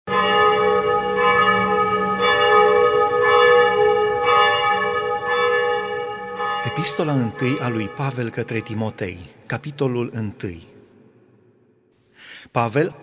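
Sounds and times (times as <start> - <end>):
church bells ringing: 0.1 - 10.6.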